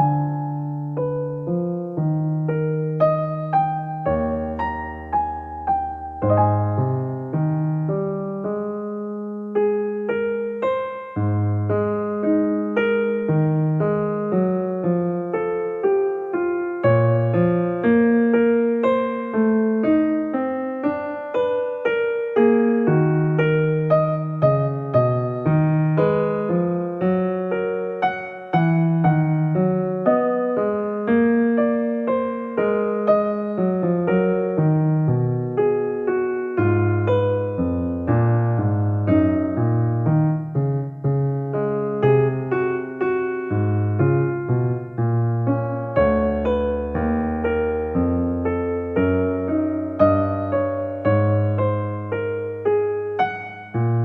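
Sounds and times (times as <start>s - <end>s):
slow piano melody: 0.0s - 54.0s.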